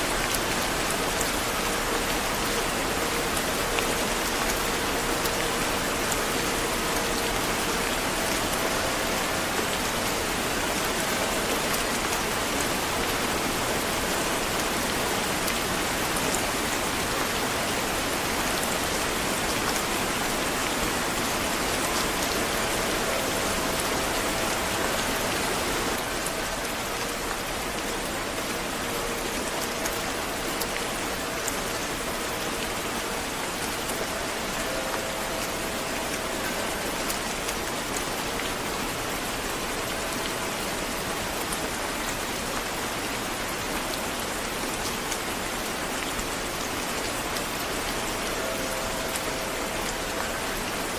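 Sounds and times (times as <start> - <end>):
steady rain falling: 0.0 - 50.9
raindrop ticks: 0.1 - 50.9.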